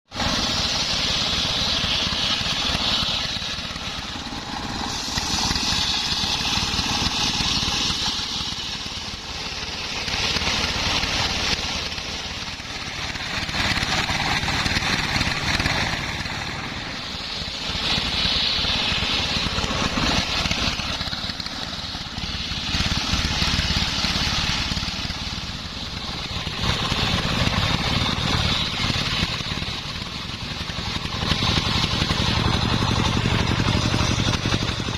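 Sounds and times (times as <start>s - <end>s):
engine rumble: 0.0s - 34.9s
saw blade cutting wood: 0.1s - 34.9s.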